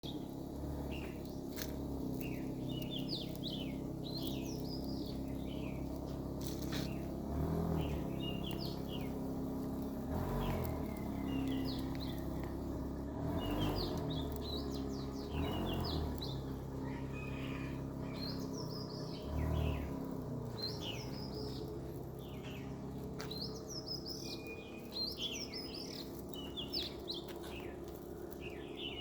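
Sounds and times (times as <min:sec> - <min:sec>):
low mechanical hum: 0:00.0 - 0:29.0
small birds chirping: 0:00.0 - 0:29.0.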